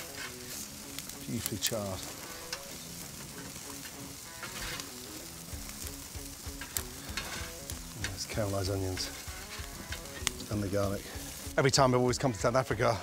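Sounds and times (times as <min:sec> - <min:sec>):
fat crackling and popping: 0:00.0 - 0:13.0
food sizzling on a grill: 0:00.0 - 0:13.0
soft background music: 0:00.0 - 0:13.0.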